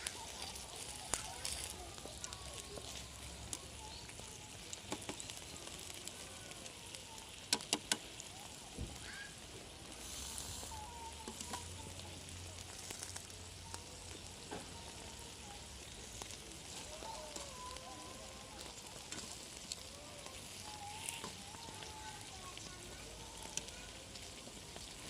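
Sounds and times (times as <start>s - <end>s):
food sizzling on hot metal: 0.0s - 25.0s.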